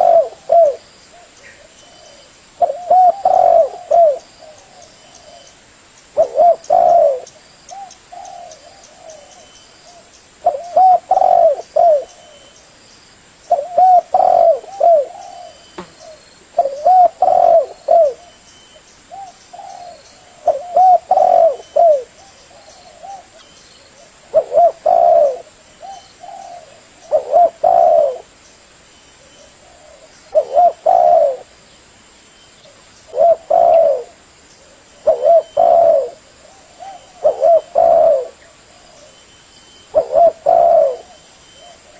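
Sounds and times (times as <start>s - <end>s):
dove cooing: 0.0s - 5.5s, 6.2s - 12.5s, 13.5s - 18.4s, 19.1s - 28.3s, 29.2s - 31.5s, 32.7s - 39.3s, 39.9s - 41.9s.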